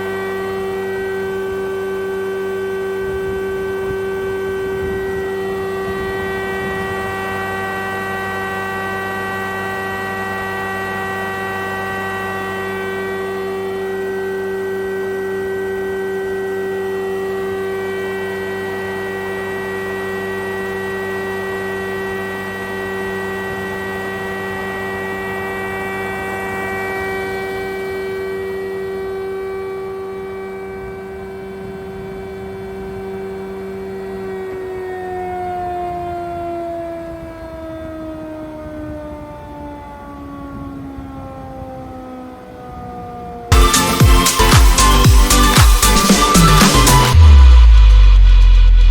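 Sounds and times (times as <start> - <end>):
thicknesser motor humming: 0.0 - 34.7, 43.5 - 48.9.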